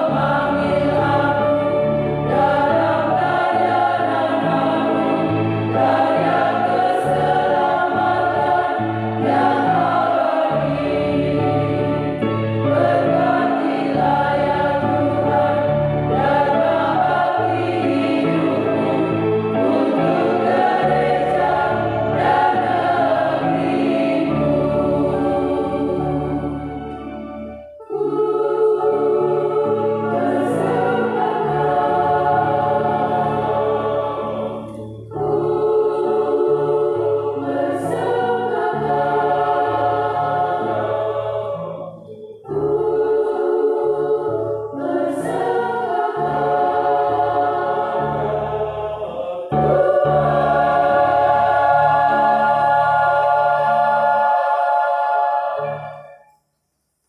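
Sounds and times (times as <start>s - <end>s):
women's choir singing: 0.0s - 56.2s.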